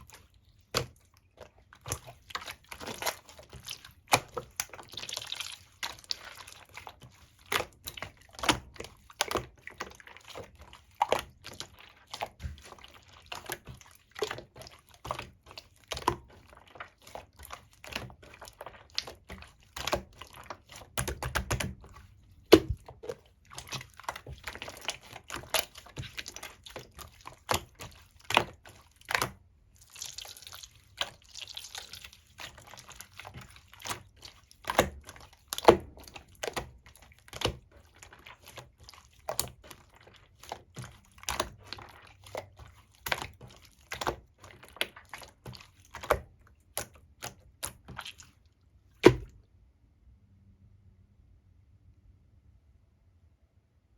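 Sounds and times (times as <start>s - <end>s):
slime being squished by hand: 0.0s - 49.4s.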